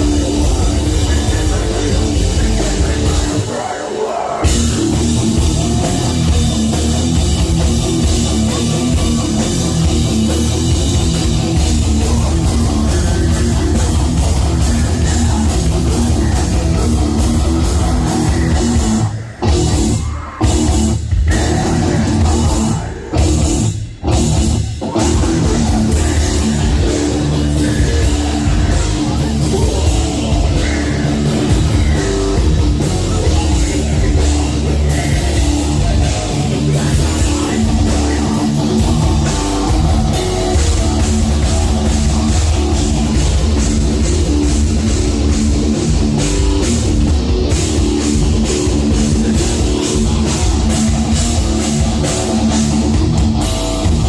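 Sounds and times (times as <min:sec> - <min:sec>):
distorted electric guitars: 0:00.0 - 0:54.0
drum kit: 0:00.0 - 0:54.0
heavy metal band playing live: 0:00.0 - 0:54.0.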